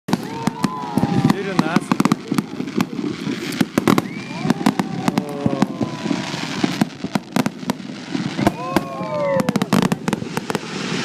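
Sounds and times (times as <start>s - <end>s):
fireworks bangs and pops: 0.1s - 11.0s
fireworks whistling: 0.1s - 11.0s.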